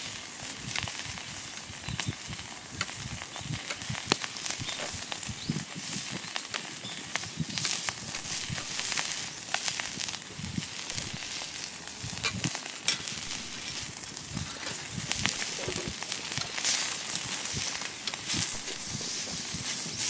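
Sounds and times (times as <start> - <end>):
sizzling on hot griddle: 0.0 - 20.0
wood fire popping: 0.0 - 20.0.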